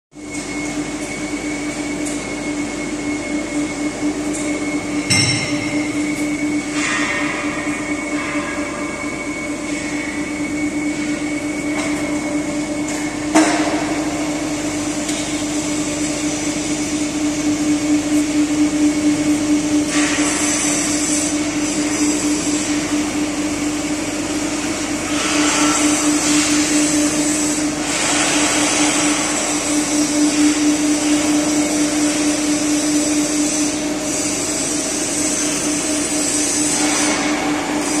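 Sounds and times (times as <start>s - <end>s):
hydraulic pump humming: 0.2s - 38.0s.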